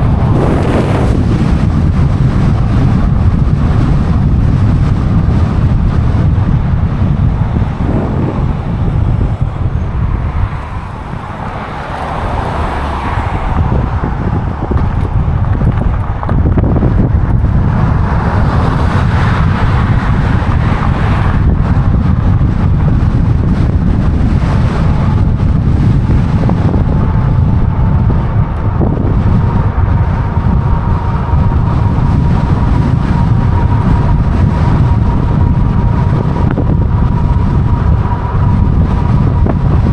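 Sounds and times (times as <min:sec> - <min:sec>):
cars passing: 0:00.0 - 0:39.9
road traffic noise: 0:00.0 - 0:39.9
wind rumbling on microphone: 0:00.0 - 0:39.9.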